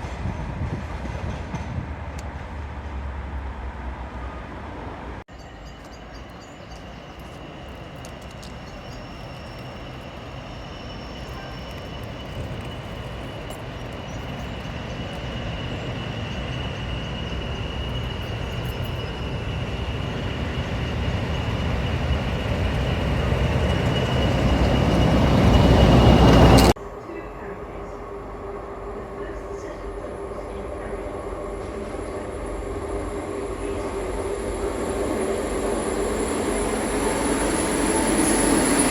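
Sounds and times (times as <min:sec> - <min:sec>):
train rumble: 0:00.0 - 0:38.9
high-pitched whine: 0:07.2 - 0:38.9.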